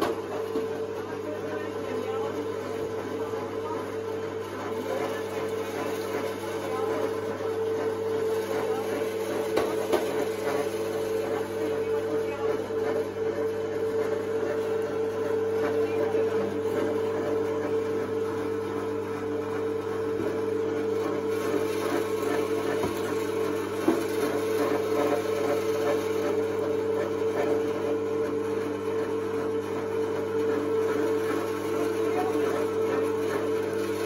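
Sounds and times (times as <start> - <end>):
electric meat grinder humming: 0.0 - 34.0.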